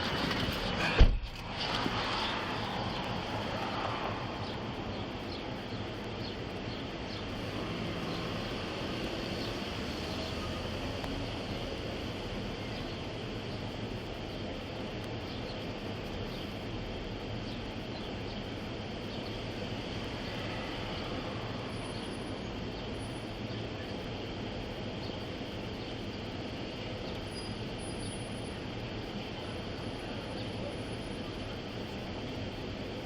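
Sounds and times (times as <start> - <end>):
vehicle rumble and hiss: 0.0 - 33.0.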